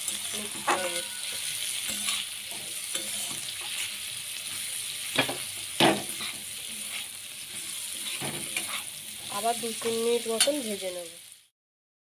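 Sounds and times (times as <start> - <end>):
metal spatula scraping a wok: 0.0 - 10.7
vegetables frying in oil: 0.0 - 11.5.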